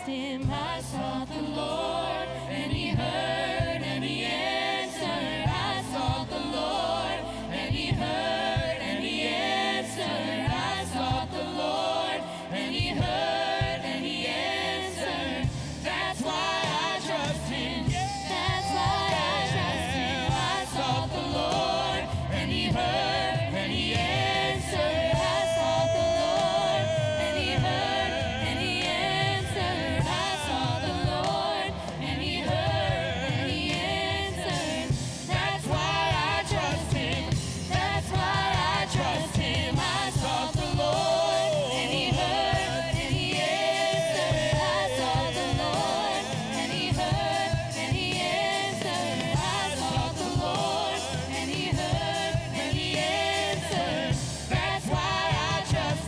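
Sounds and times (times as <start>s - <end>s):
congregation singing: 0.0s - 56.0s
church band playing: 0.4s - 56.0s.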